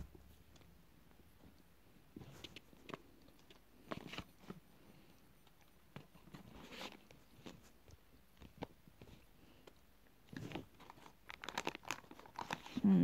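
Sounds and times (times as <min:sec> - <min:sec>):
faint chewing with soft crunches: 0:00.0 - 0:13.0.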